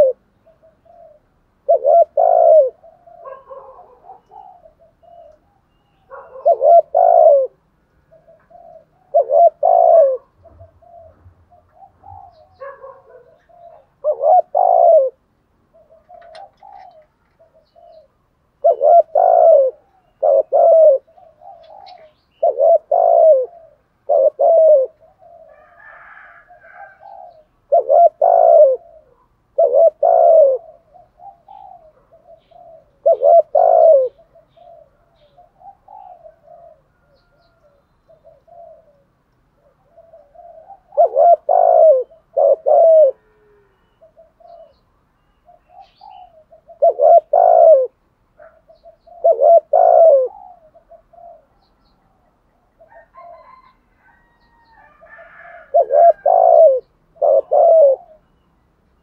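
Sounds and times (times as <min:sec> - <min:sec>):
dove cooing: 0:00.0 - 0:58.4.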